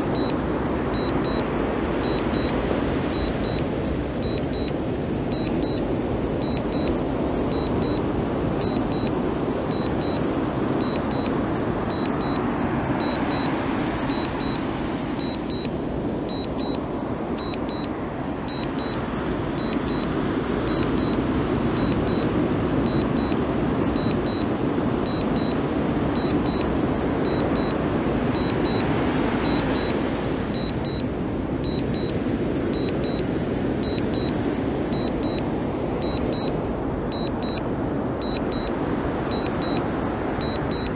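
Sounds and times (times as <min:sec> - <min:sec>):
remote controller double beeps: 0:00.0 - 0:04.7, 0:05.3 - 0:10.2, 0:10.8 - 0:15.7, 0:16.3 - 0:16.8, 0:17.4 - 0:17.9, 0:18.5 - 0:23.4, 0:24.0 - 0:25.6, 0:26.2 - 0:27.8, 0:28.4 - 0:40.9.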